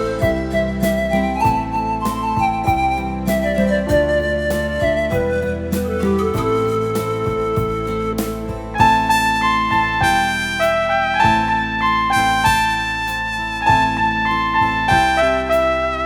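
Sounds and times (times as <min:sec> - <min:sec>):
keyboard melody: 0:00.0 - 0:16.0
sustained low bass notes: 0:00.0 - 0:16.0.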